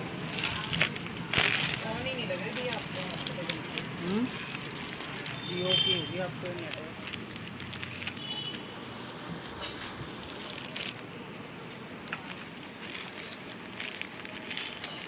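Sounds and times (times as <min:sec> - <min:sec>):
steady background noise: 0:00.0 - 0:15.0
plastic bags crinkling: 0:00.2 - 0:08.6, 0:10.0 - 0:15.0.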